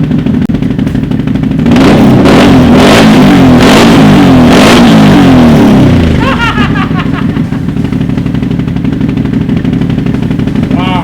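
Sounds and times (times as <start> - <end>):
engine idling and revving: 0.0 - 11.0.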